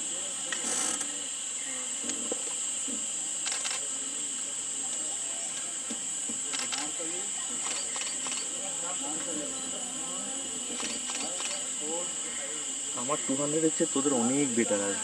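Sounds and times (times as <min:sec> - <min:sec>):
distant voices murmuring: 0:00.0 - 0:15.0
high-pitched hiss: 0:00.0 - 0:15.0.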